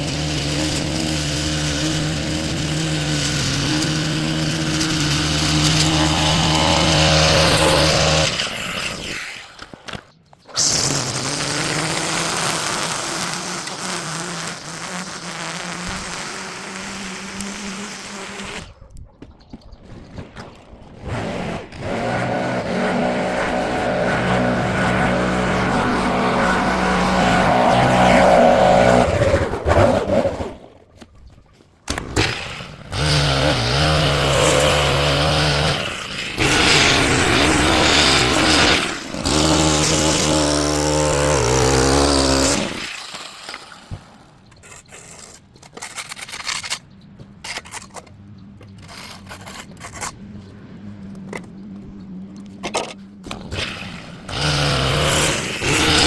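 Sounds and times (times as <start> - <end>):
small petrol engine revving: 0.0 - 18.9, 21.0 - 30.7, 31.9 - 46.8, 47.5 - 56.0.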